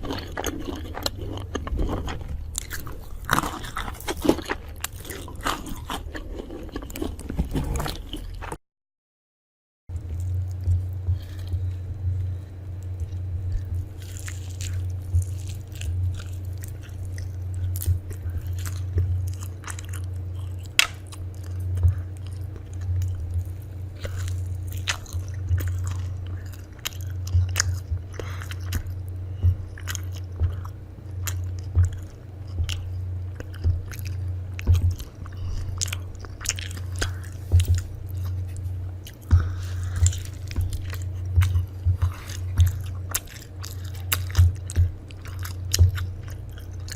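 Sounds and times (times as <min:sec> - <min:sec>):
person chewing crunchy food: 0:00.0 - 0:08.6, 0:09.9 - 0:46.9
steady low hum: 0:00.0 - 0:08.6, 0:09.9 - 0:46.9.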